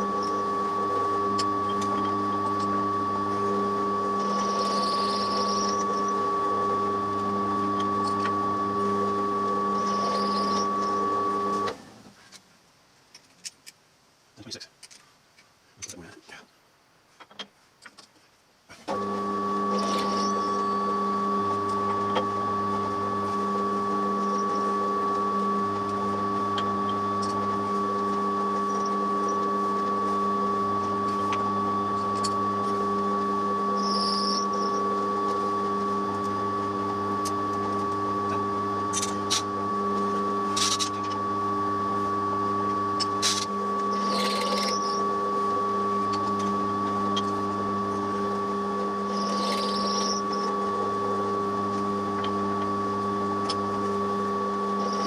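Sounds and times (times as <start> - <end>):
electric motor humming: 0.0 - 11.8, 18.8 - 55.0.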